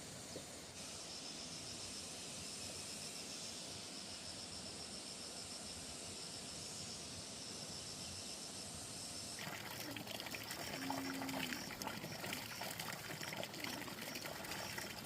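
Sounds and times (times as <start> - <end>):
faint outdoor hiss: 0.0 - 15.0
insects chirping trill: 0.8 - 15.0.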